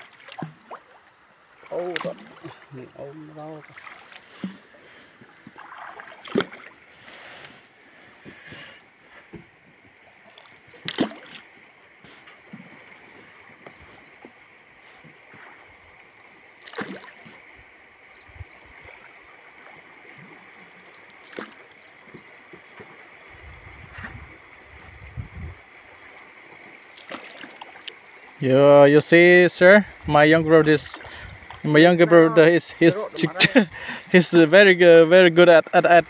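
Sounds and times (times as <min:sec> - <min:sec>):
paddle splashes: 0:00.0 - 0:28.3, 0:30.5 - 0:34.6
water swishing against hull: 0:00.0 - 0:28.3, 0:29.8 - 0:31.8.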